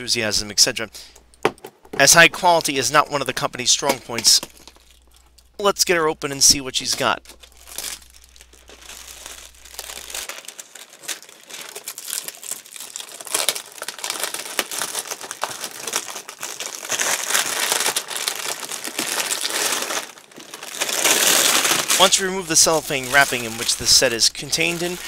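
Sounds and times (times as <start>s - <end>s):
cellophane crinkling: 2.0s - 5.6s, 6.2s - 25.0s.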